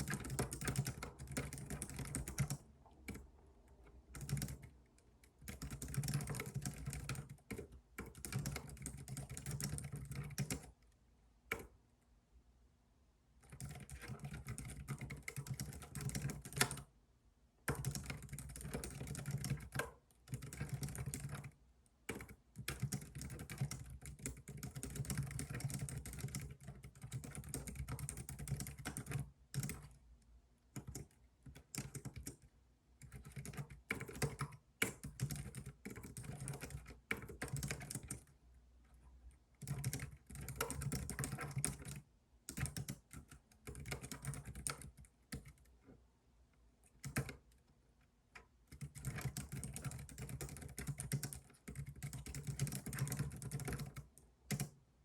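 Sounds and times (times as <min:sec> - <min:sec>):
typing on computer keyboard: 0:00.0 - 0:11.8, 0:13.4 - 0:16.9, 0:17.6 - 0:30.0, 0:30.7 - 0:38.4, 0:39.3 - 0:46.0, 0:46.8 - 0:47.6, 0:48.4 - 0:54.8.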